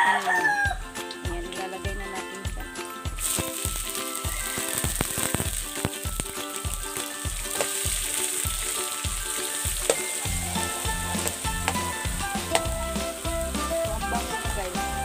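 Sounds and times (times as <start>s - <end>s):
banana blossom sizzling in oil: 0.0s - 15.0s.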